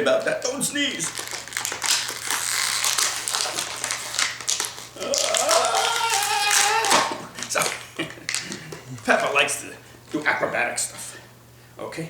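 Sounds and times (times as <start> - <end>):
plastic toys clicking and crinkling: 0.0 - 10.4.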